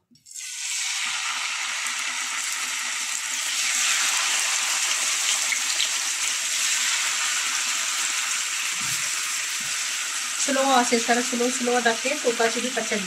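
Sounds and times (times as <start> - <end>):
chicken sizzling in a frying pan: 0.3 - 13.0.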